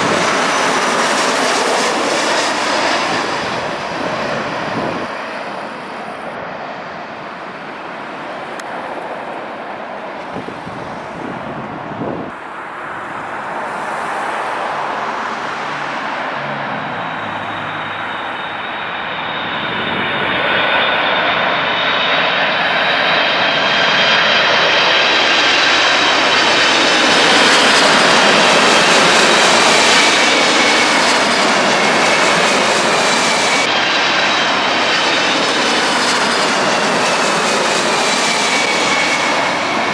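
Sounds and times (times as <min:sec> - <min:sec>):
jet airliner engines passing: 0:00.0 - 0:39.9.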